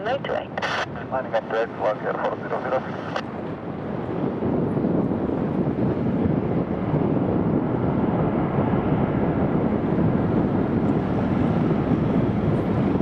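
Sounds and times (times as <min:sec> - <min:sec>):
turboprop engines rumbling: 0:00.0 - 0:13.0.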